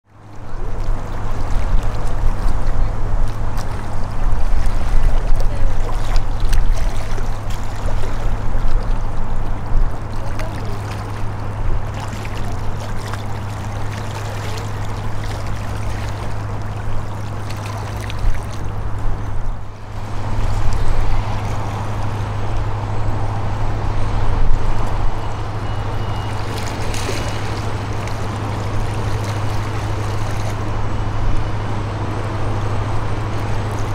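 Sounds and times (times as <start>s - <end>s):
ship engines droning: 0.0s - 33.9s
wind: 0.0s - 33.9s.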